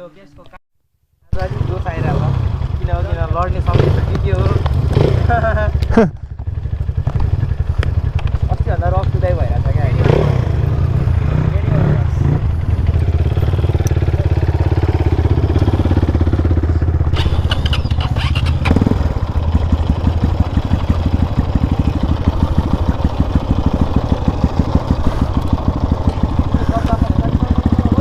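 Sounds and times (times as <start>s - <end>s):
motorcycle engine running: 1.3s - 28.0s.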